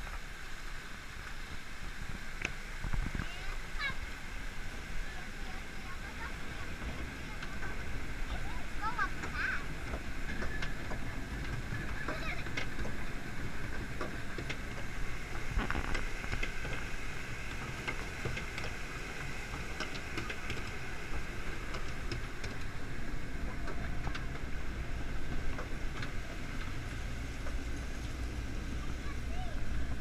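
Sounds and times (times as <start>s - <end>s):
conveyor lift mechanical rumble: 0.0s - 30.0s.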